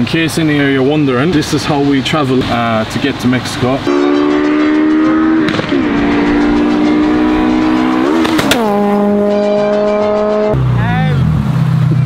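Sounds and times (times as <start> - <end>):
car engine at high revs: 2.3 - 12.0.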